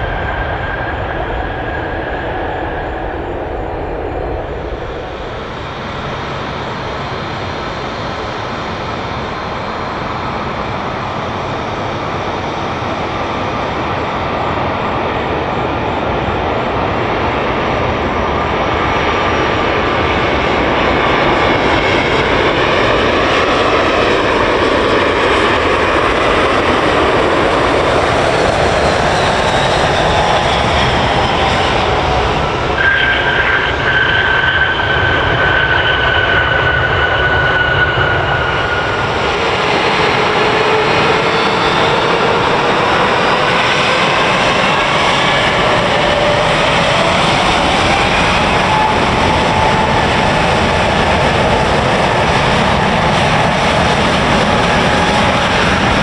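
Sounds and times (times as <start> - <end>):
airliner engines running: 0.0 - 56.0
high engine whine: 0.0 - 56.0.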